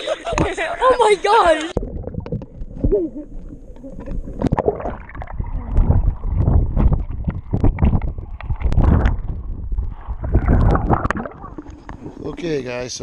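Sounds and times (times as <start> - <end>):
muffled underwater water sloshing: 0.1 - 12.7.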